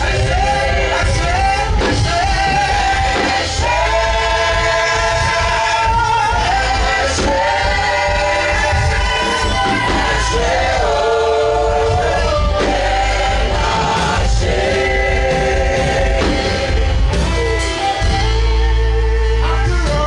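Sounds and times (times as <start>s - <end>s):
band with steady bass: 0.0s - 20.0s
singers holding sliding notes: 0.0s - 20.0s.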